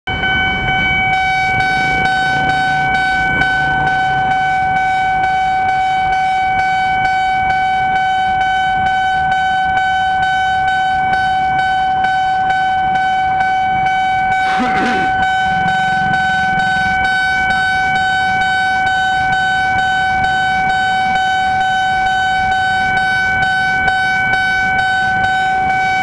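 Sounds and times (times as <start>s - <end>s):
level crossing alarm ringing: 0.1s - 26.0s
low traffic rumble: 0.1s - 26.0s.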